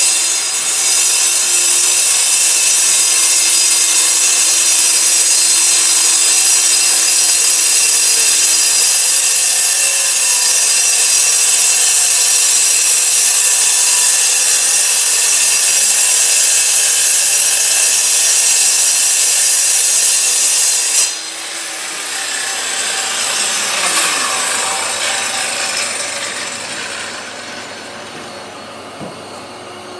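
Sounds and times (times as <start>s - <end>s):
concrete saw cutting with whine: 0.0s - 29.9s.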